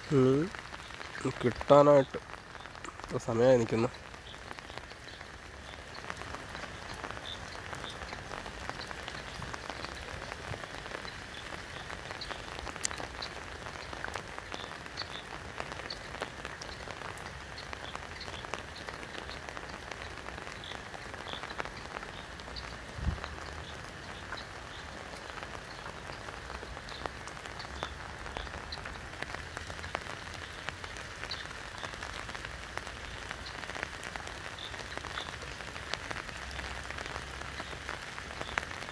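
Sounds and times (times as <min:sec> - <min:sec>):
rain falling on river: 0:00.0 - 0:38.9.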